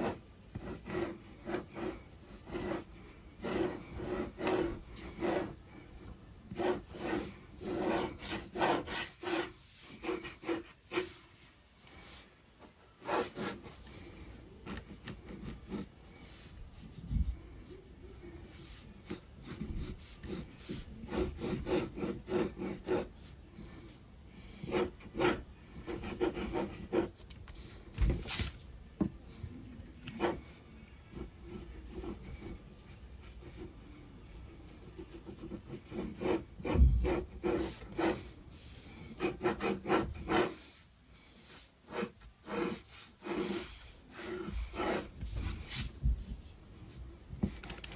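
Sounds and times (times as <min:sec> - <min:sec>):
pencil scratching on paper: 0:00.0 - 0:05.6, 0:06.5 - 0:11.2, 0:11.8 - 0:28.6, 0:29.9 - 0:46.0.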